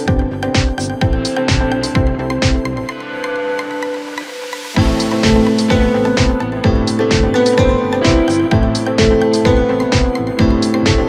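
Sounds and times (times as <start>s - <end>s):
kick drum and bass beat: 0.0s - 3.0s, 4.8s - 11.0s
electronic music: 0.0s - 11.0s.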